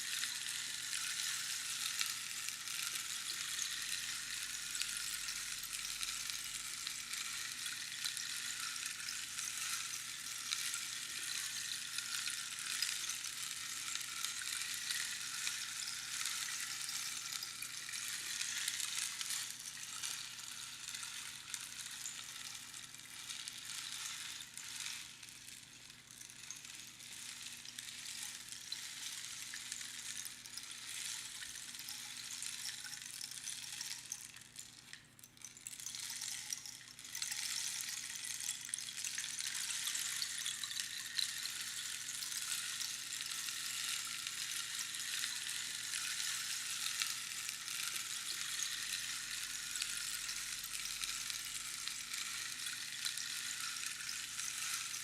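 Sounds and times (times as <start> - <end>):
rainstick crackling hiss: 0.0 - 55.0.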